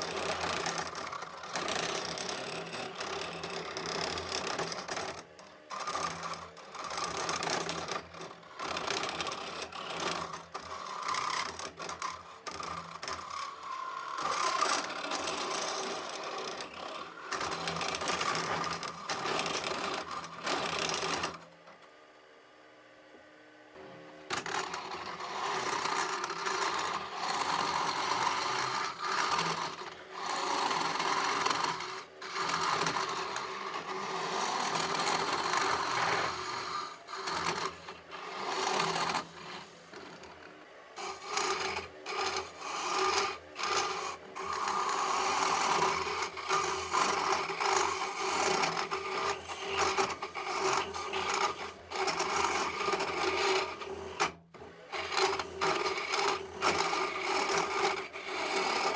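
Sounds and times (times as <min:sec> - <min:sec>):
lathe tool scraping wood: 0:00.0 - 0:21.4, 0:24.2 - 0:58.9
lathe motor hum: 0:00.0 - 0:21.5, 0:23.8 - 0:58.9.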